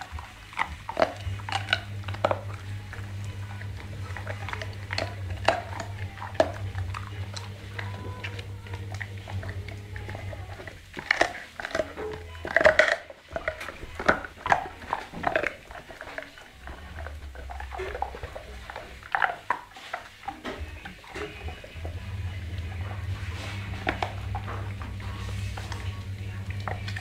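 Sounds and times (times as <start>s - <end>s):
dog crunching a bone: 0.0s - 27.0s.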